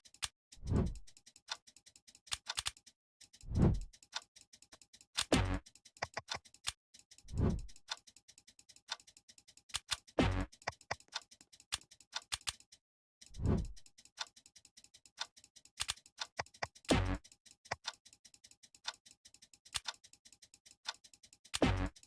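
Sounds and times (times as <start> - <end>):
fast clock ticking: 0.0 - 22.0.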